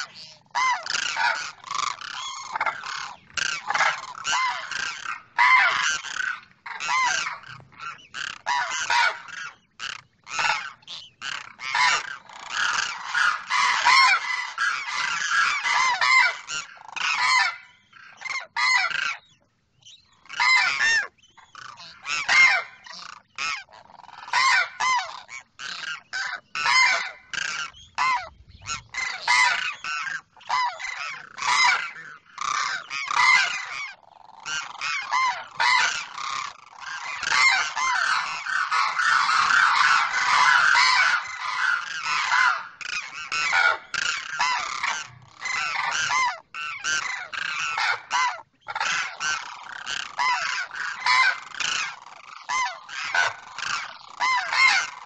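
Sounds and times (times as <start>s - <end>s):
cranes calling: 0.0s - 55.0s.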